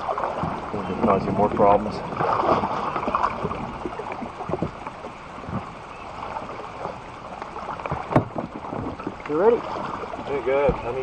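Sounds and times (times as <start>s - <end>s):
water splashing around kayak: 0.0s - 11.0s.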